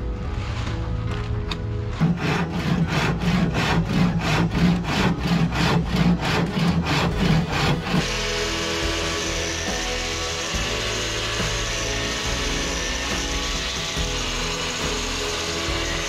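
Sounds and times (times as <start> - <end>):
angle grinder sanding: 2.0 - 16.0
hand saw cutting wood: 2.0 - 16.0.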